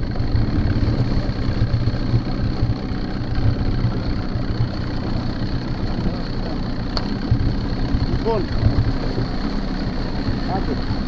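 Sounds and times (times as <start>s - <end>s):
boat wash: 0.0s - 11.0s
outboard motor running: 0.0s - 11.0s.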